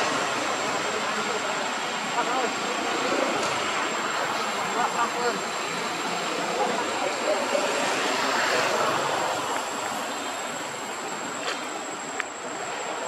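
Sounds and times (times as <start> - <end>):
hiss-like rumble: 0.0 - 13.0.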